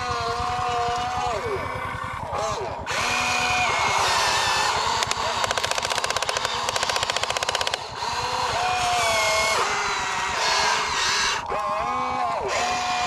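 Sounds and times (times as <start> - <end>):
fast even rattle: 0.0 - 11.9
machinery whining: 0.0 - 13.0.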